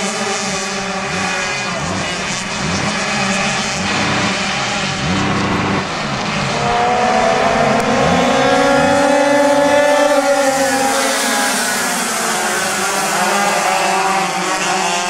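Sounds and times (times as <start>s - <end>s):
small engines buzzing at high revs: 0.0s - 15.0s.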